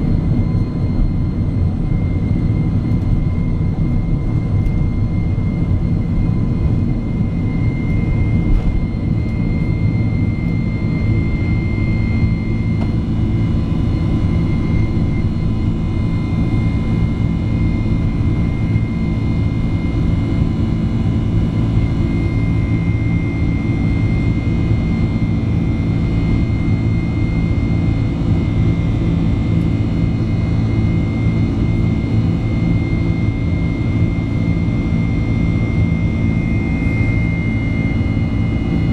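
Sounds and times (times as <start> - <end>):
faint high engine whine: 0.0 - 38.9
jet engine cabin rumble: 0.0 - 38.9.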